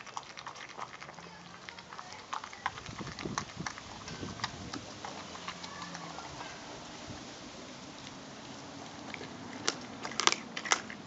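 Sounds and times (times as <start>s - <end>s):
dog chewing meat and bone: 0.0s - 6.8s, 7.9s - 11.0s.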